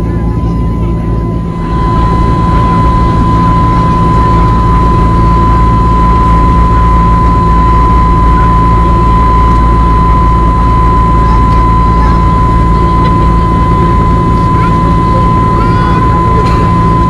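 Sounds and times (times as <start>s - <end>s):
jet engine and airflow rumble: 0.0s - 17.0s
steady high whine: 0.0s - 17.0s.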